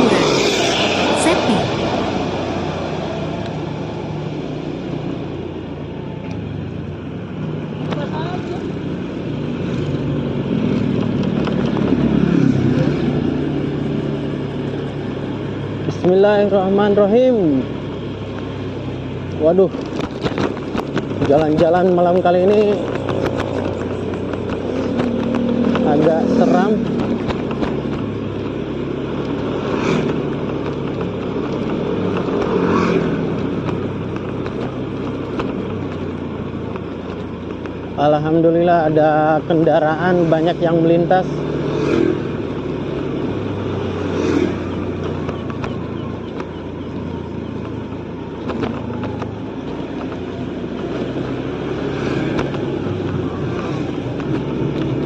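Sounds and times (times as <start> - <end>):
road and wind noise: 0.0 - 55.0
vehicles passing: 0.0 - 55.0
motorcycle engine running: 2.0 - 55.0.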